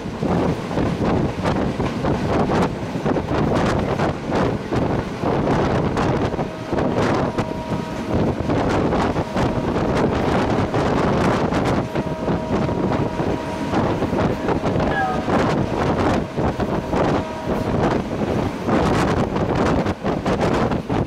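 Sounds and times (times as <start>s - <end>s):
train running noise: 0.0s - 21.0s
wind buffeting microphone: 0.0s - 21.0s.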